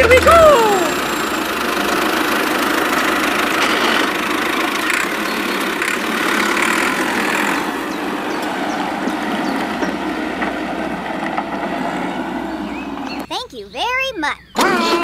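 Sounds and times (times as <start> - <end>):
small motor gritty whirring: 0.0 - 13.2.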